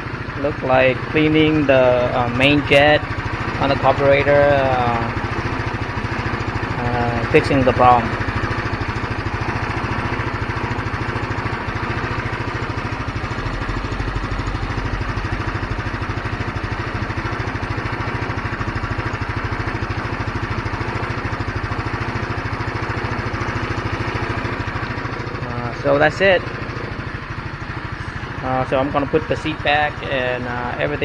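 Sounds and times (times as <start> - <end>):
scooter engine idling: 0.0 - 31.0.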